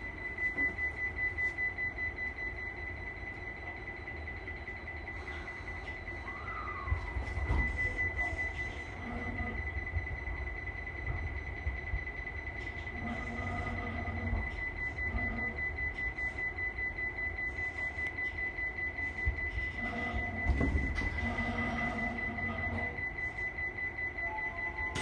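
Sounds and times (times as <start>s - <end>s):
high-pitched whine: 0.0s - 25.0s.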